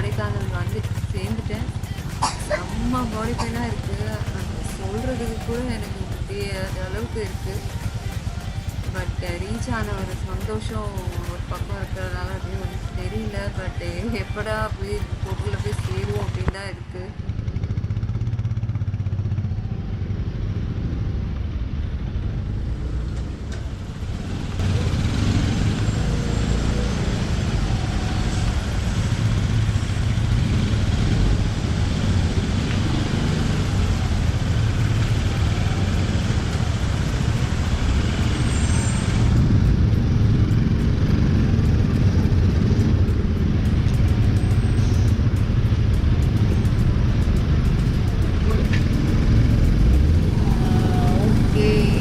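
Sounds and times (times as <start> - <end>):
road noise: 0.0 - 52.0
traffic: 0.0 - 52.0.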